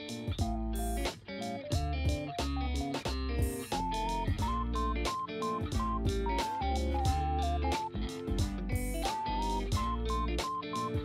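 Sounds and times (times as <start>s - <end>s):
plucked guitar melody with bass: 0.0s - 11.0s.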